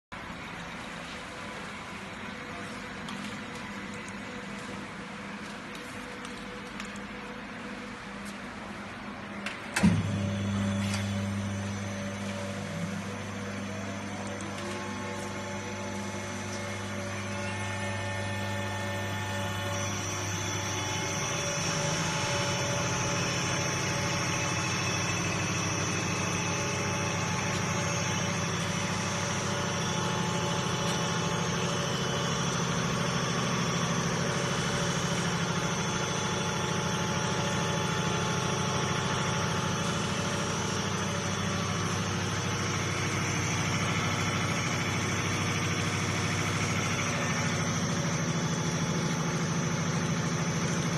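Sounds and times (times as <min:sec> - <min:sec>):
drive motor humming: 0:00.4 - 0:50.9.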